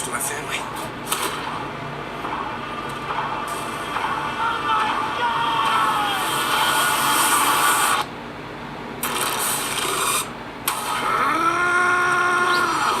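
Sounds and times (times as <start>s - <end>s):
loud hissy machine-like din: 0.0s - 8.3s, 9.0s - 13.0s.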